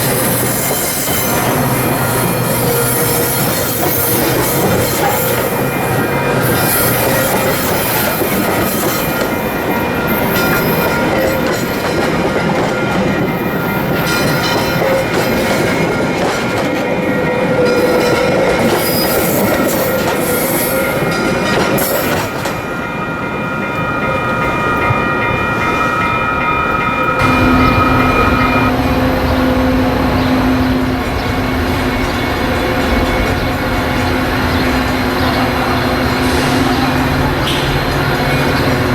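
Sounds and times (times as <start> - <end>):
train rumbling over rails: 0.0 - 38.9
train wheels squealing: 0.0 - 38.9.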